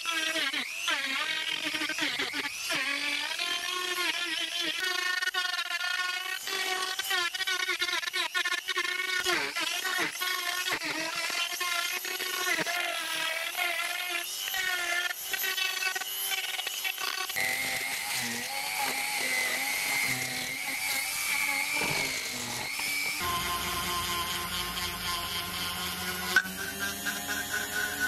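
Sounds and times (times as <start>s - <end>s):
rotary tool grinding wood: 0.0s - 28.0s.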